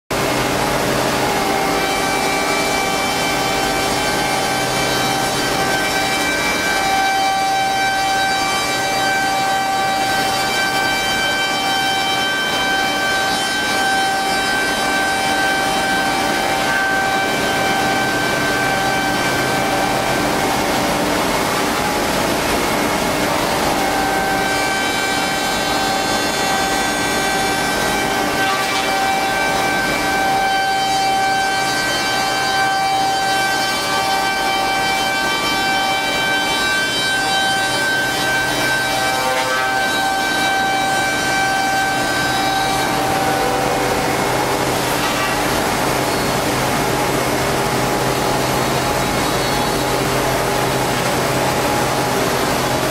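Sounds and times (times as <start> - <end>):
machine cutting wood: 0.2 - 52.9.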